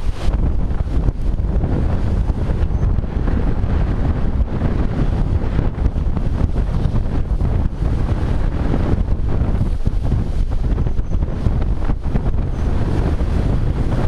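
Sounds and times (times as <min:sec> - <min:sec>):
sea water rushing past hull: 0:00.0 - 0:14.0
wind buffeting microphone: 0:00.0 - 0:14.0.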